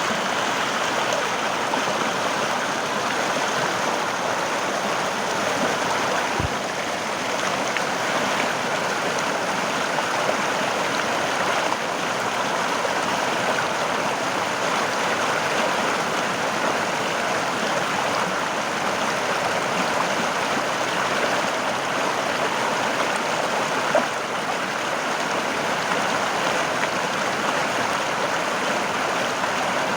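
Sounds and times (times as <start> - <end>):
river water flowing over rocks: 0.0 - 29.9.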